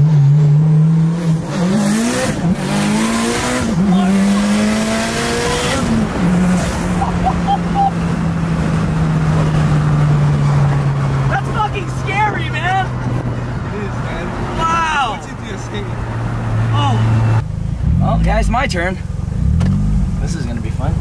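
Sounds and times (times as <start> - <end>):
turbocharged car engine accelerating: 0.0 - 21.0.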